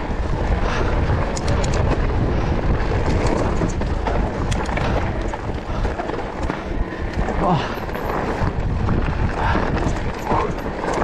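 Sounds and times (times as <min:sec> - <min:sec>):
bike clicks and rattles: 0:00.0 - 0:11.0
tyres rushing over trail: 0:00.0 - 0:11.0
wind rumbling on microphone: 0:00.0 - 0:11.0.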